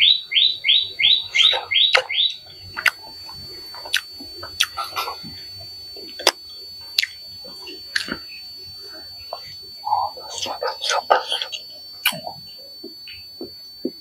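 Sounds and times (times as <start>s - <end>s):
bird chirping: 0.0s - 5.4s, 7.0s - 13.9s
man chewing and eating: 0.8s - 14.0s.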